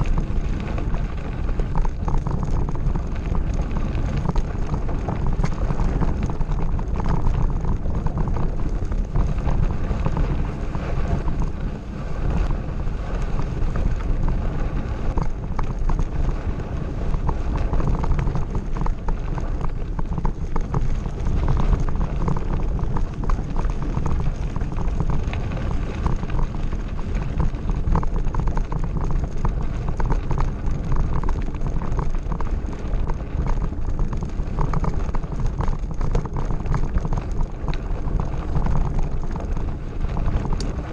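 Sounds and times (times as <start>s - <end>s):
bike rattling: 0.0s - 40.9s
tyres crackling on loose stones: 0.0s - 40.9s
wind buffeting microphone: 0.0s - 40.9s.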